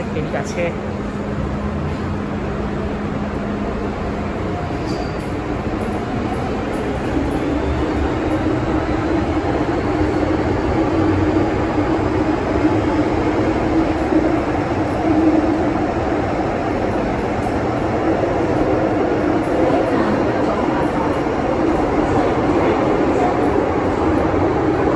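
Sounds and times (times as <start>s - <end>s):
train wheels rumbling: 0.0s - 24.9s.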